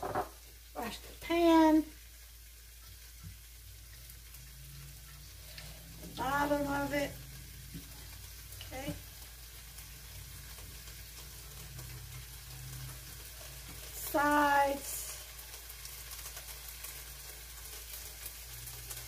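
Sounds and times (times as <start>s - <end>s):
peppers sizzling in frying pan: 0.0s - 19.0s.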